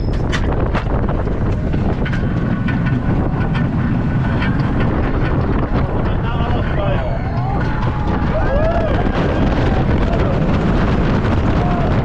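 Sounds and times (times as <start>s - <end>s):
roller coaster train rumble: 0.0s - 12.0s
wheel clicks and clacks: 0.0s - 12.0s
wind rushing over microphone: 0.0s - 12.0s.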